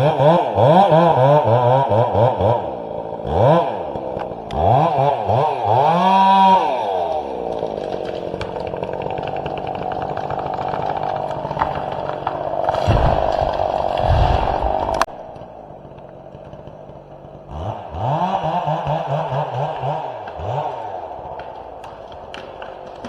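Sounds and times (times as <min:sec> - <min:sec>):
chainsaw engine revving: 0:00.0 - 0:23.0.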